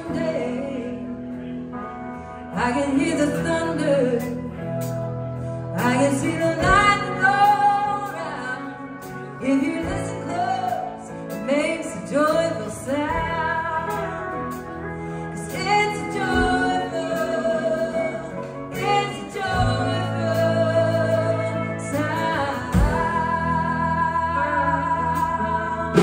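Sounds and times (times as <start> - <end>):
live band playing country song: 0.0 - 26.0.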